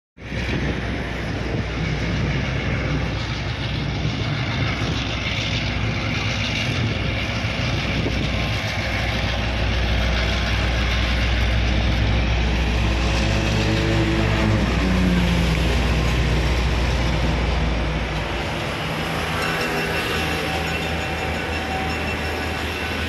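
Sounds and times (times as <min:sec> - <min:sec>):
diesel locomotive engine hum: 0:00.2 - 0:23.0.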